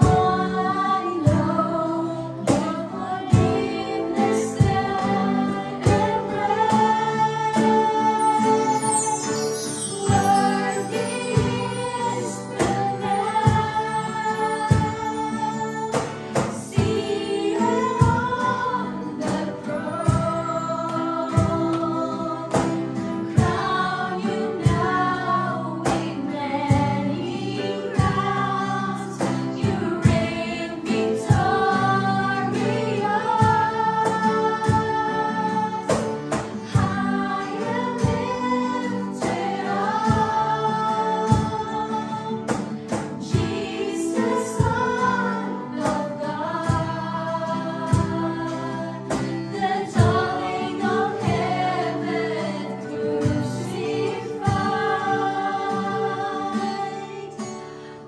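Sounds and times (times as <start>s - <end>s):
song with several voices: 0.0s - 58.0s.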